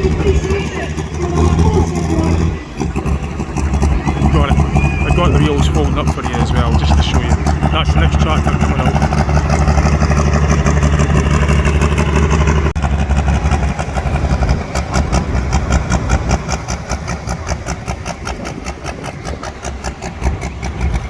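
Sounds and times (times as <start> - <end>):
tractor engine running at low revs: 0.0 - 21.0.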